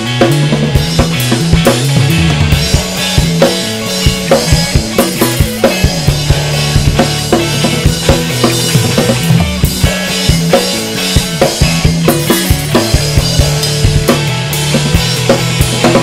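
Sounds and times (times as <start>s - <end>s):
bass line: 0.0s - 16.0s
drum kit playing: 0.0s - 16.0s.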